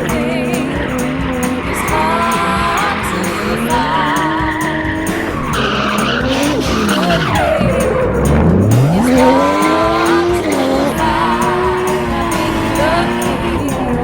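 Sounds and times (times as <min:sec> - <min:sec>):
car engine revving: 0:00.0 - 0:14.0
tyres skidding: 0:00.0 - 0:14.0.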